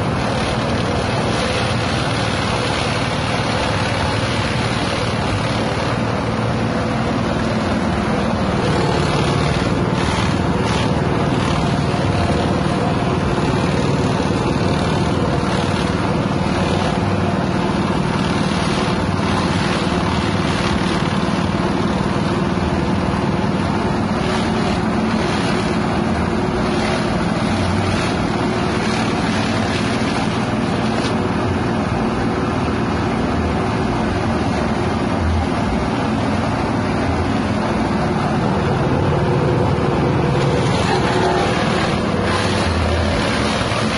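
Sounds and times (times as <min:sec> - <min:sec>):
chopper shredding leaves: 0:00.0 - 0:43.9
small petrol engine running: 0:00.0 - 0:43.9.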